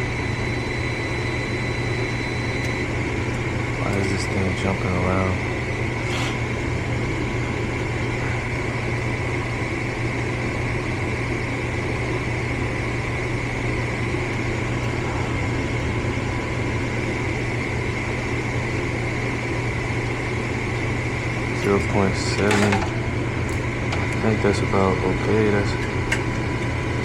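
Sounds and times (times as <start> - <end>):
furnace motor humming: 0.0 - 27.0.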